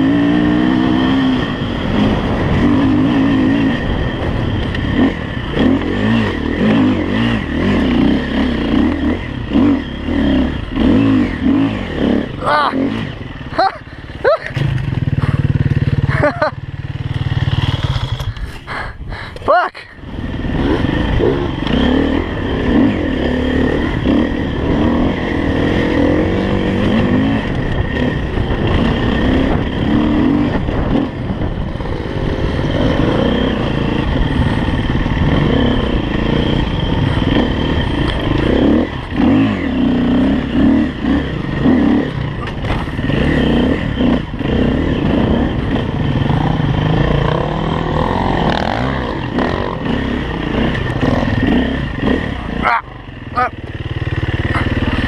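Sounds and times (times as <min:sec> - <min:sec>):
dirt bike engine revving: 0:00.0 - 0:18.6, 0:20.0 - 0:55.0.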